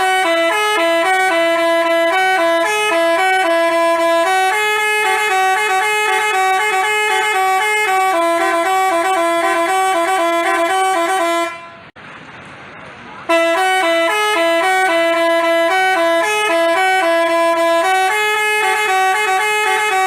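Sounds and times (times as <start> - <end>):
bus horn playing a melody: 0.0 - 12.0, 13.3 - 20.0.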